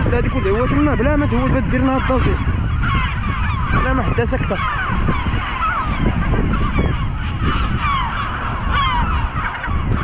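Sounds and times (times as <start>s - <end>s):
gulls calling: 0.0s - 10.0s.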